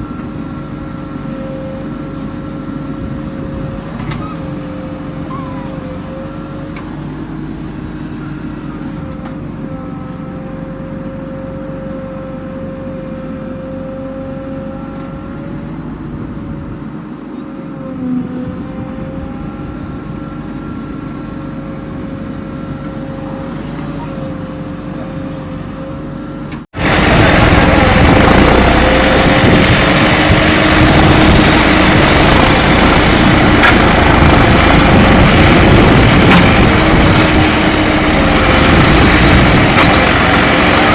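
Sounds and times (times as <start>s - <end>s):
diesel engine droning: 0.0s - 40.9s
loud close engine: 0.0s - 40.9s.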